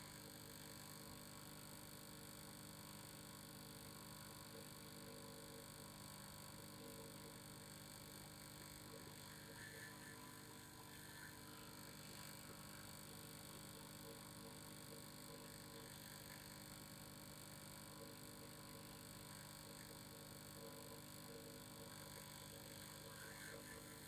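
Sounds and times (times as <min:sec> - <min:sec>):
faint vibrating hum: 0:00.0 - 0:24.0.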